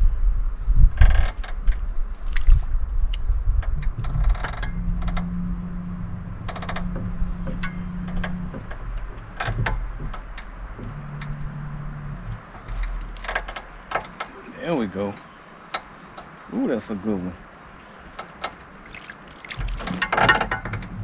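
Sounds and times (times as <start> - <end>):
electric boat motor humming: 3.4 - 21.0.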